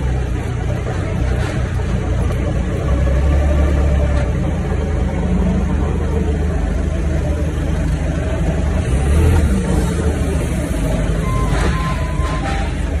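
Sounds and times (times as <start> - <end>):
forklift engine drone: 0.0 - 13.0.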